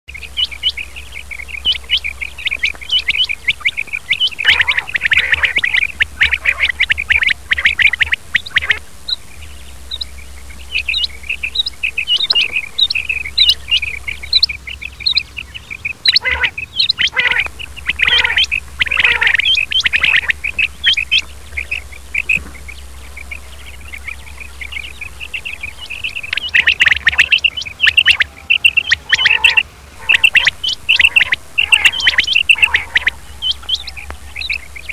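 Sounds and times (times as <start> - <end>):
quail calling in high chirps: 0.1 - 34.9
steady low hum: 0.1 - 34.9.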